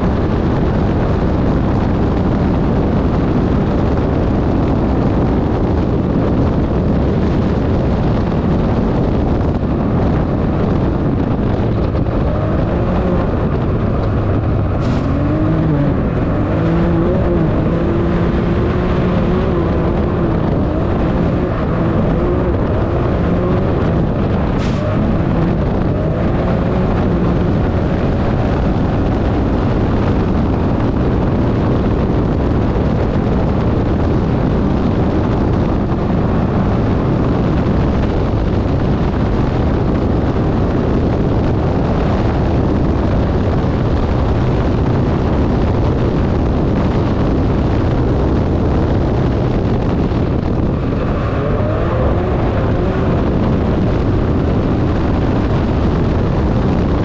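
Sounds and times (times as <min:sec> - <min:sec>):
engine running hard: 0:00.0 - 0:57.0
wind rushing over microphone: 0:00.0 - 0:57.0.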